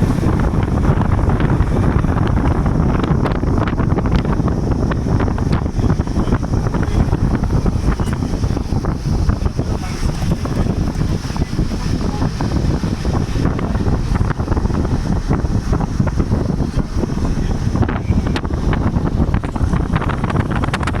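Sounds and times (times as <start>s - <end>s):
vehicle road noise rumble: 0.0s - 21.0s
wind rushing across microphone: 0.0s - 21.0s.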